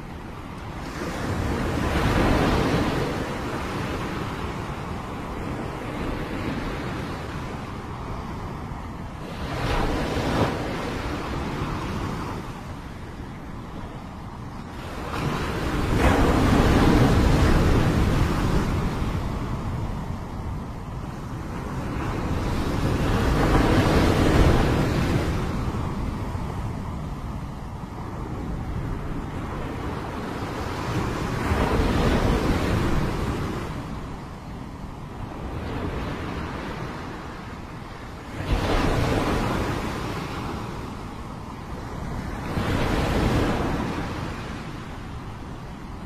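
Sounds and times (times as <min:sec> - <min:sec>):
wind rumbling on the microphone: 0:00.0 - 0:46.0.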